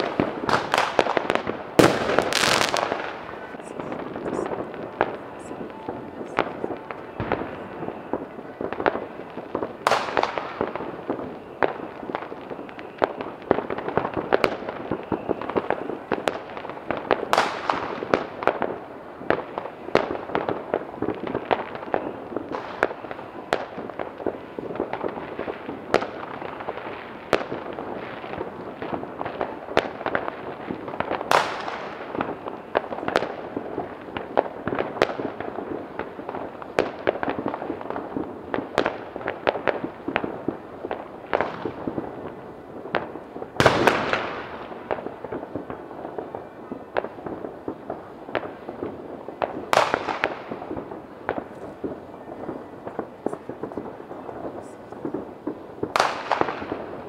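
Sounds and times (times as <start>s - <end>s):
fireworks and firecrackers crackling: 0.0s - 57.0s.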